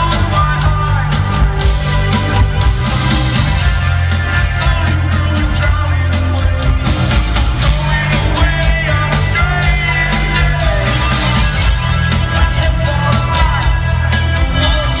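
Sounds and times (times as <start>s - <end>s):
person singing: 0.0s - 2.4s, 4.1s - 15.0s
bass guitar: 0.0s - 15.0s
drums: 0.0s - 15.0s
electric guitars: 0.0s - 15.0s.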